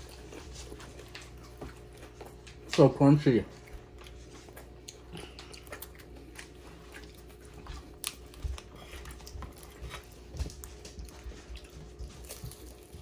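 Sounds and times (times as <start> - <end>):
crunchy food being chewed: 0.0 - 13.0.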